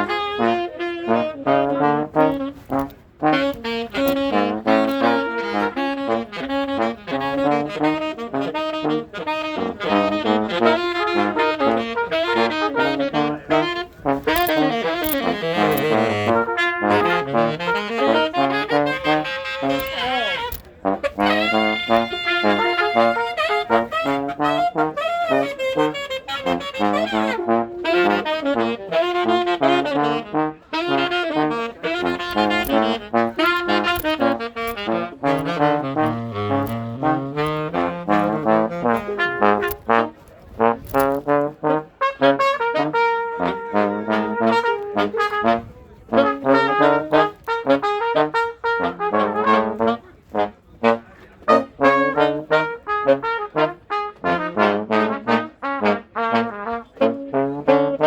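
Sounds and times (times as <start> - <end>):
horns playing melody: 0.0 - 58.0.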